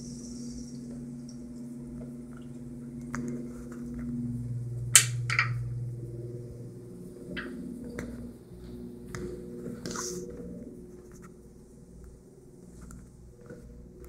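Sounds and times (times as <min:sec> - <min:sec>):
water humming in toilet pipes: 0:00.0 - 0:14.0.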